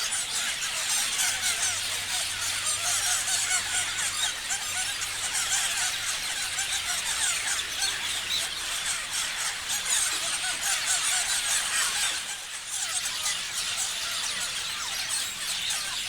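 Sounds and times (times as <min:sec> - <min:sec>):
flock of parrots chirping: 0:00.0 - 0:16.0.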